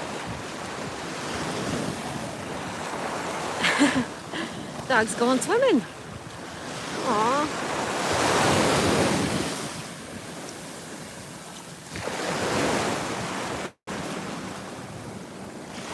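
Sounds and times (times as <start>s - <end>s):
wind buffeting microphone: 0.0s - 13.6s
waves breaking on beach: 0.0s - 15.9s.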